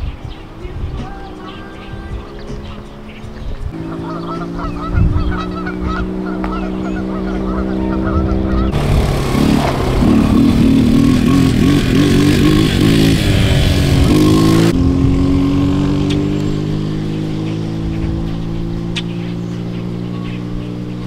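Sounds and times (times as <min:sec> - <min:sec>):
quad bike engine running: 0:00.8 - 0:21.0
steady hum rising in pitch: 0:01.0 - 0:21.0.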